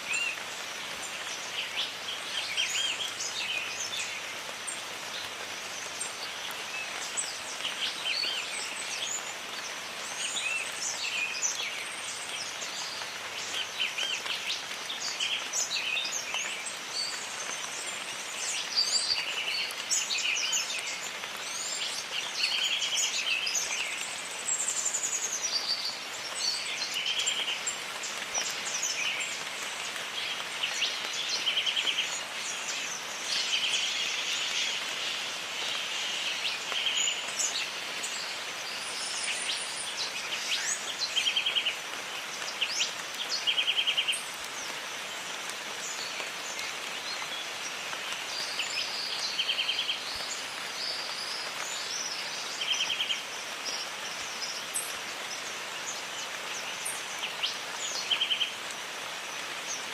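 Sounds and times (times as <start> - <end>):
steady hiss of rain: 0.0 - 59.9.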